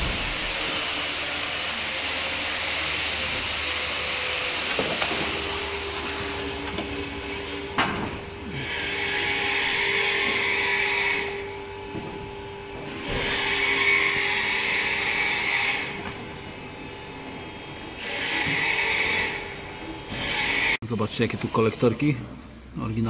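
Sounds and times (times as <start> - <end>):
power tool whirring: 0.0 - 22.2.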